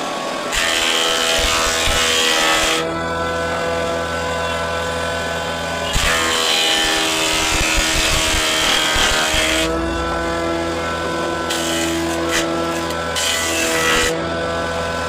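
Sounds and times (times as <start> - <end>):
tool cutting wood: 0.0 - 15.0
power tool motor hum: 0.5 - 15.0.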